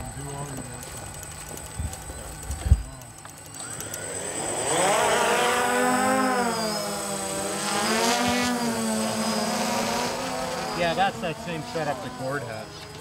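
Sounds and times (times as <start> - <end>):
quadcopter propeller whine: 0.0 - 13.0.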